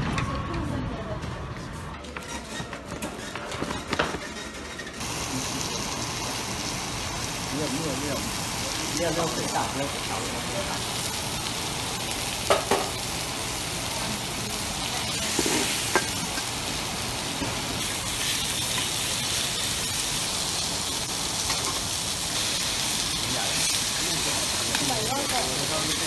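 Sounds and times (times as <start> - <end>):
food sizzling on a griddle: 5.0 - 26.0.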